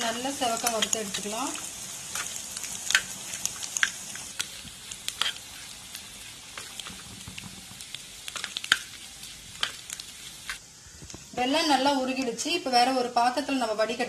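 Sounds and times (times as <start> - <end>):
frying sizzle with crackles: 0.0 - 14.0.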